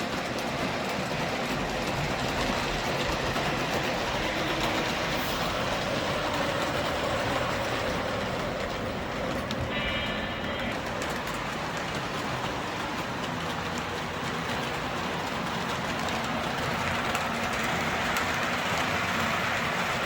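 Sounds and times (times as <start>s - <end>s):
model trains rumbling on track: 0.0s - 20.0s.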